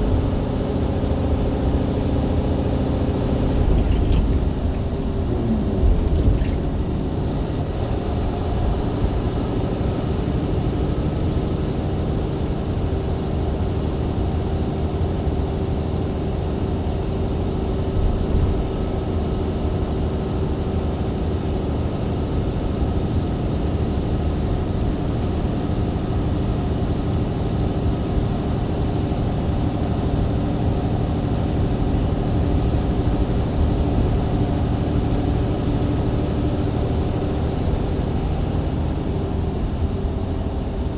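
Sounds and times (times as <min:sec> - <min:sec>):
bus engine drone: 0:00.0 - 0:40.9
road noise: 0:00.0 - 0:40.9.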